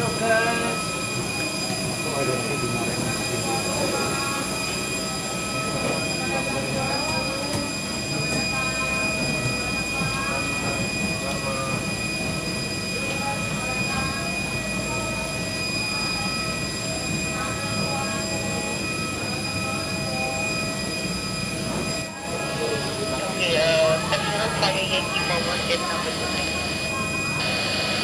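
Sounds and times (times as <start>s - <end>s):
constant high whine: 0.0s - 28.0s
faint voices: 0.0s - 28.0s.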